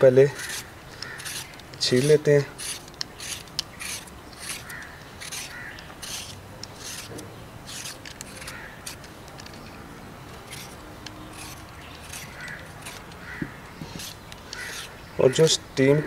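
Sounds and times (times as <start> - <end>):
peeler scraping potato skin: 0.0 - 15.6.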